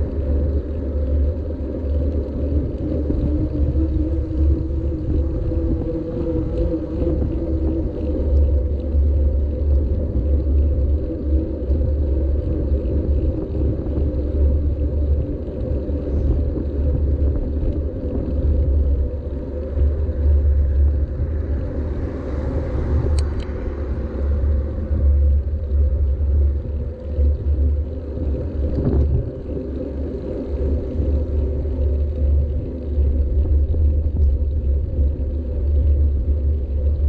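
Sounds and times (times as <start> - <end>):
tyres rolling on road: 0.0 - 37.0
wind rumbling on microphone: 0.0 - 37.0.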